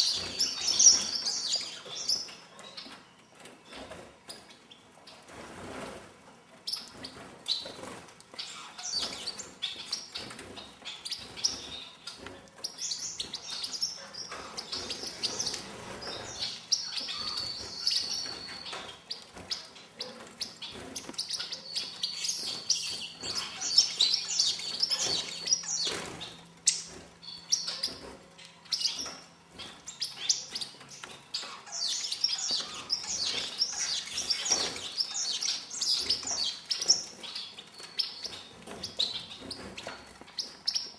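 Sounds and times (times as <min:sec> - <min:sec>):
finches chirping: 0:00.0 - 0:05.3, 0:06.6 - 0:40.9.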